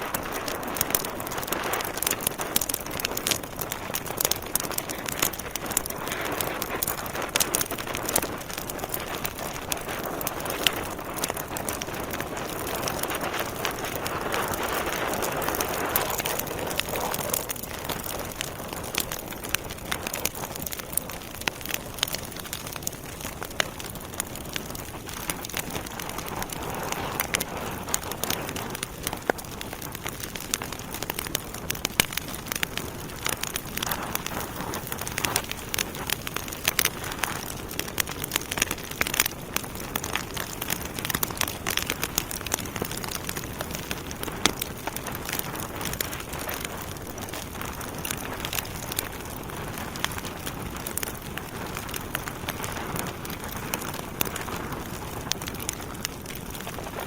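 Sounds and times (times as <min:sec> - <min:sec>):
fire hiss: 0:00.0 - 0:56.0
logs crackling and popping: 0:00.0 - 0:57.0.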